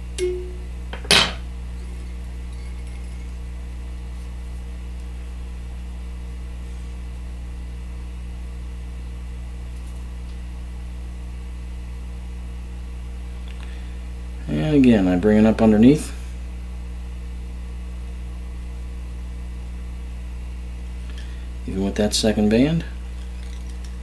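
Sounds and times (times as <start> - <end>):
mains hum: 0.0 - 24.0.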